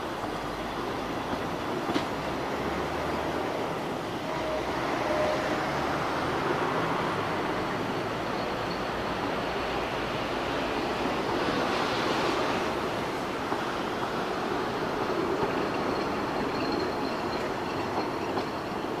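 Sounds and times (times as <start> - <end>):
train wheels running on rail: 0.0 - 19.0.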